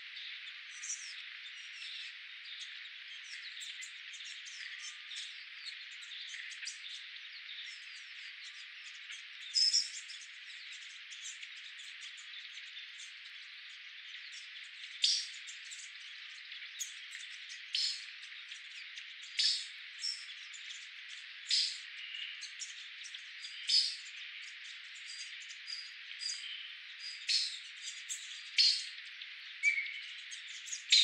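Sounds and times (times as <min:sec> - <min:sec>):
birds and insects chirping: 0:00.0 - 0:31.0.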